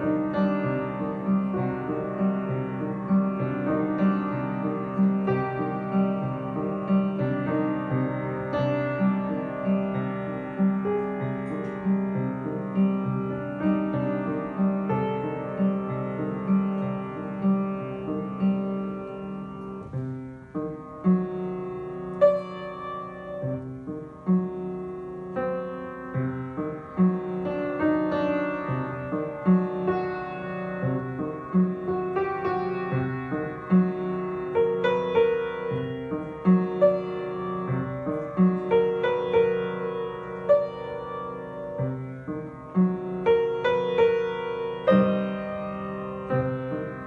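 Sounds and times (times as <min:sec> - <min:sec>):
solo piano melody: 0:00.0 - 0:47.0.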